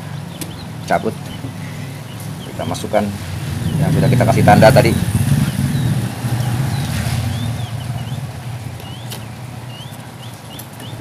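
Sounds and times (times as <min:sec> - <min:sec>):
birds chirping: 0:00.0 - 0:11.0
low engine rumble: 0:00.0 - 0:11.0.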